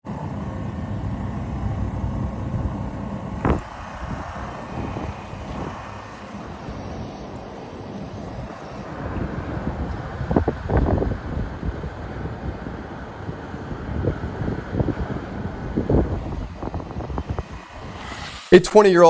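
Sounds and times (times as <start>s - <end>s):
steady low rumble: 0.1s - 13.2s, 15.3s - 18.7s.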